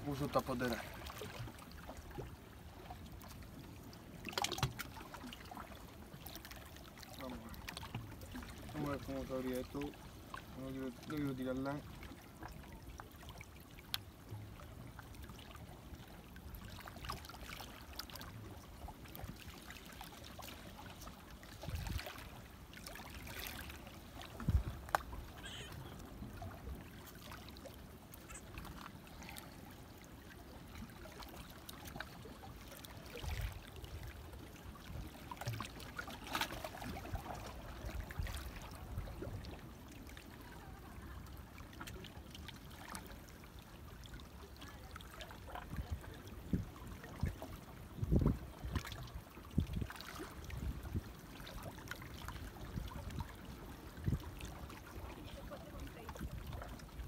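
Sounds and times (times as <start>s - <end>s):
small waves lapping against rocks: 0.0s - 57.0s.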